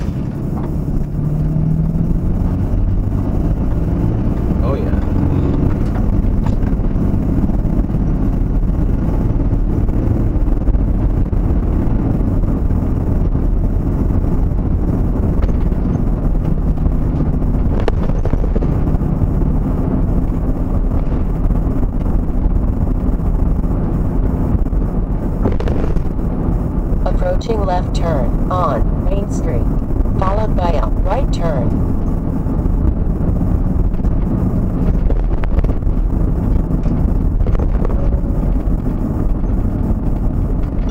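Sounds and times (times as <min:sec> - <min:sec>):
road noise: 0:00.0 - 0:40.9
vehicle engine rumble: 0:00.0 - 0:40.9.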